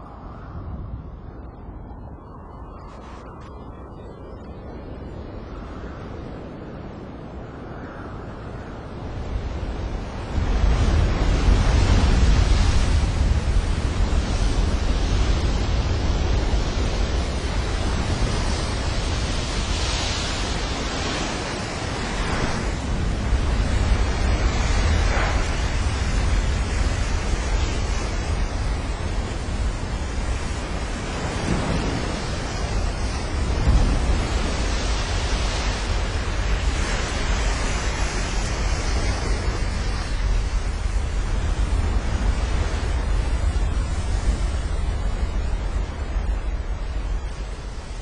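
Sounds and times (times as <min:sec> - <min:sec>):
wind on microphone: 0:00.0 - 0:48.0.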